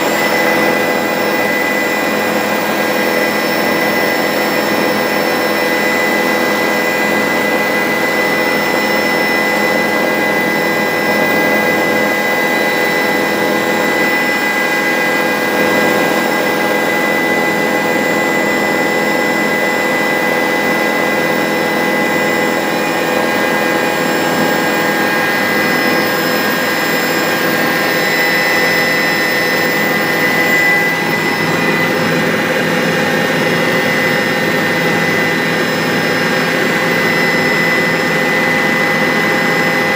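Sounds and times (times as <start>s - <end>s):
helicopter engine and rotors whining: 0.0s - 39.9s.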